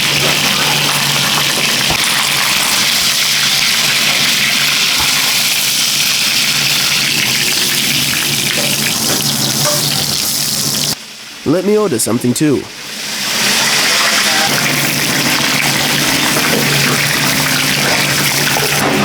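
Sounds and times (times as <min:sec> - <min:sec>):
water running from kitchen tap: 0:00.0 - 0:11.0, 0:12.8 - 0:19.0.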